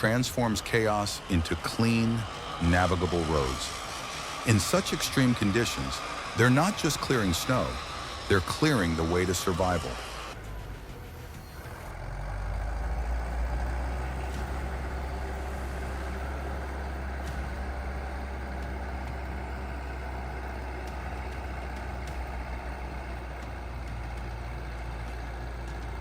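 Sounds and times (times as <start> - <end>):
bulldozer diesel engine humming: 0.0 - 26.0.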